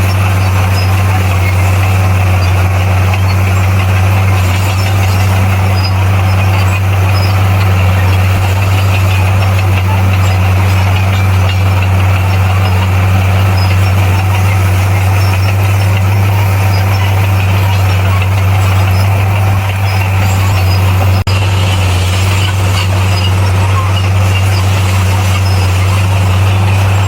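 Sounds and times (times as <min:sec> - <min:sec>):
bulldozer diesel engine humming: 0:00.0 - 0:27.0.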